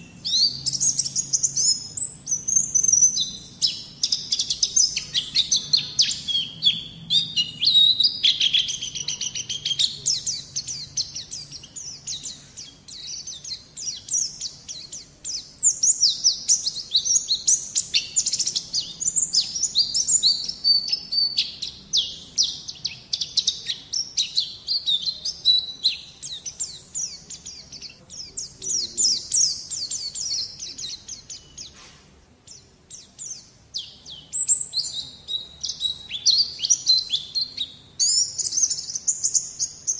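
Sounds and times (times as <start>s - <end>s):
bird twittering chatter: 0.0s - 39.9s.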